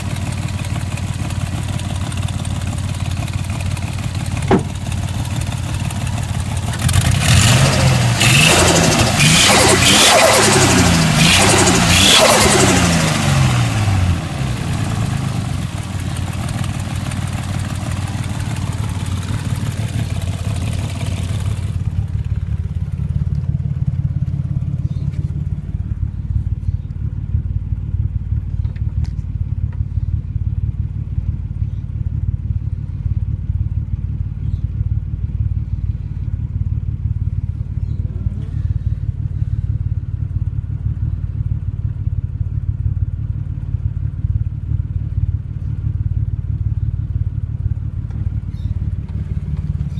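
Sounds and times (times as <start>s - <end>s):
faint engine ticking: 0.0s - 8.1s, 12.4s - 49.9s
car engine idling: 0.0s - 49.9s.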